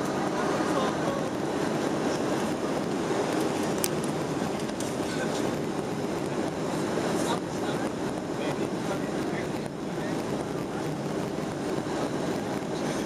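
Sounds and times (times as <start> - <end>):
airliner cabin noise: 0.0 - 13.0.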